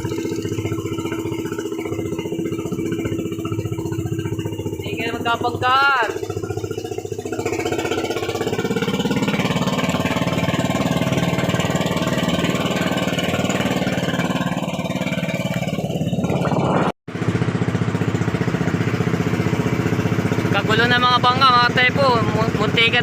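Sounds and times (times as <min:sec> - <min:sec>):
boat engine puttering: 0:00.0 - 0:23.0.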